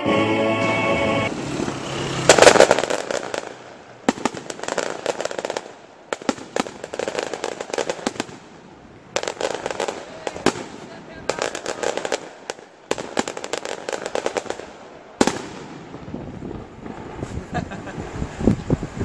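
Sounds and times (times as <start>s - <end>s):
fireworks bangs and crackles: 1.3s - 19.0s.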